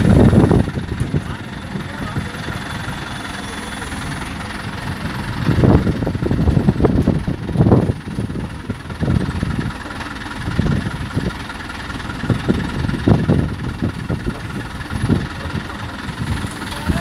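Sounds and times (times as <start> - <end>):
crane diesel engine idling: 0.0 - 17.0.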